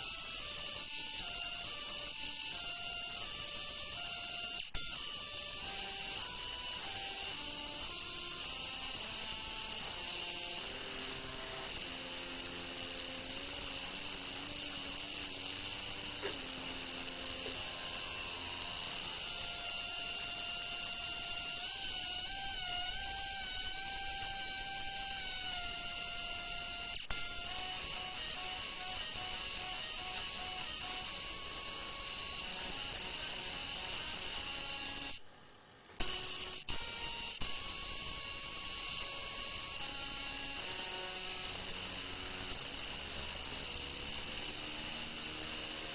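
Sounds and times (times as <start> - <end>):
electric arc playing synth tones: 0.0 - 35.2, 36.0 - 45.9.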